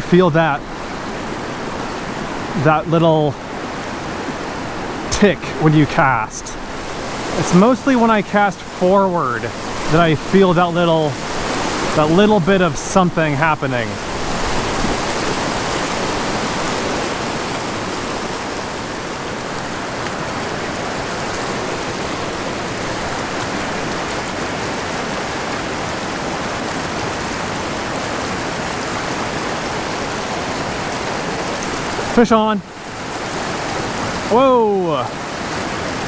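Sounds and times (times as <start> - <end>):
river water rushing over rocks: 0.0 - 36.0.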